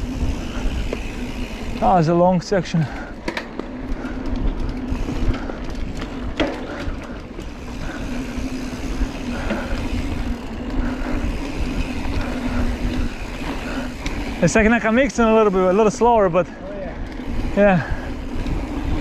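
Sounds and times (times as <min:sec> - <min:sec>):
bike rattles and knocks: 0:00.0 - 0:19.0
bike tyre noise on dirt: 0:00.0 - 0:19.0.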